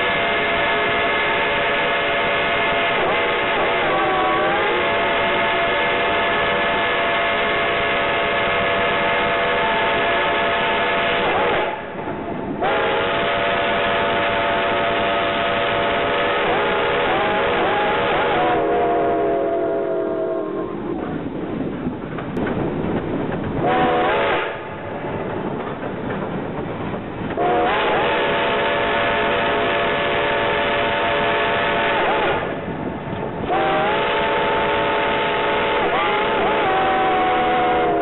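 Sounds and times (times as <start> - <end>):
steam locomotive whistle blowing: 0.0 - 11.9, 12.6 - 20.9, 23.6 - 24.6, 27.4 - 32.6, 33.4 - 38.0
moving train noise: 0.0 - 38.0.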